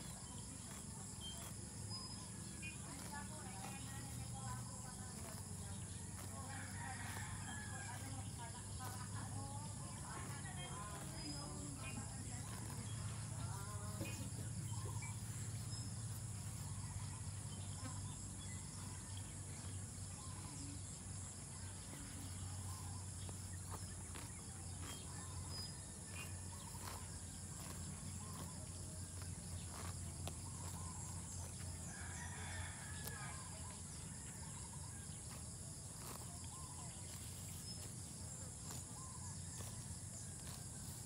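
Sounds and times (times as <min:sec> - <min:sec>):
insects trilling: 0:00.0 - 0:41.0.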